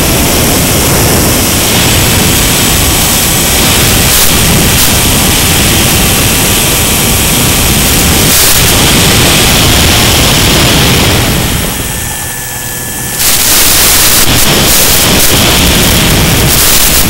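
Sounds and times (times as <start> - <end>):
radio static: 0.0 - 17.0
wind and motor rushing hiss: 0.0 - 17.0.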